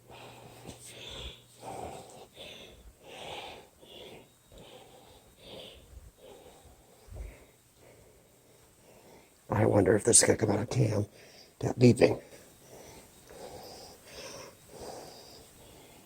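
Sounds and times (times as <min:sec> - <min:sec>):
breathing close to microphone: 0:00.0 - 0:09.4, 0:11.1 - 0:11.6, 0:12.3 - 0:16.0.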